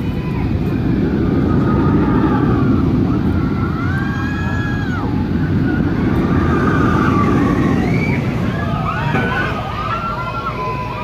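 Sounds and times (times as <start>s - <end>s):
riders screaming: 0.0s - 11.0s
roller coaster rumble: 0.0s - 11.0s.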